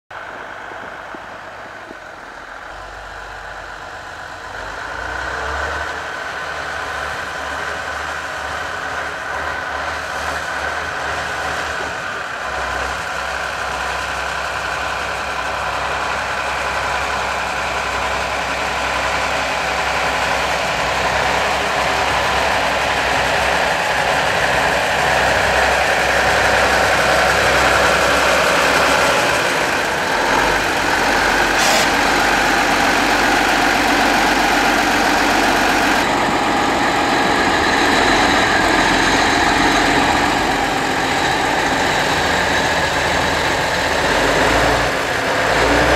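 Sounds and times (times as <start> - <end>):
diesel locomotive engine running: 0.1 - 45.9.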